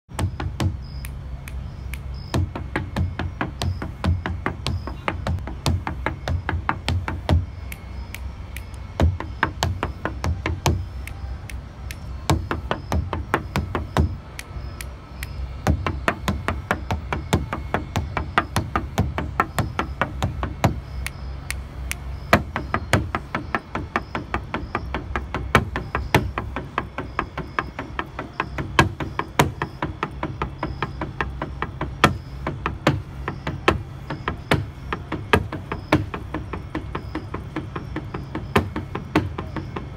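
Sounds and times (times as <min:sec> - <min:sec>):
shoes tapping on wooden boards: 0:00.1 - 0:39.9.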